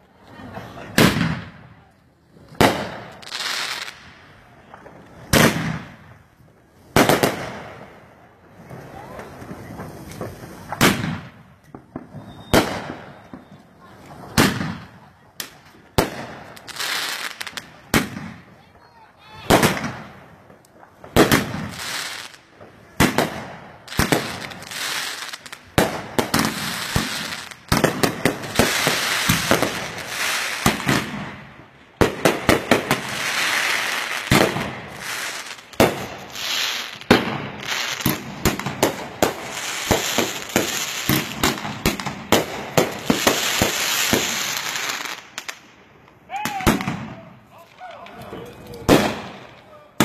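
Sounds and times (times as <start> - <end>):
firework crackling: 0.0 - 50.0.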